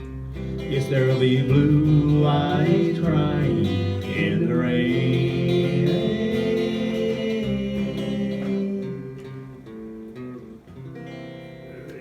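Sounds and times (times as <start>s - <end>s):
guitar chords: 0.0s - 12.0s.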